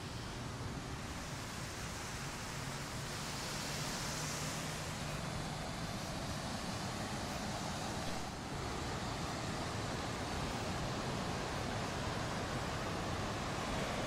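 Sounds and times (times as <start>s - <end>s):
surf washing on shore: 0.0s - 14.0s.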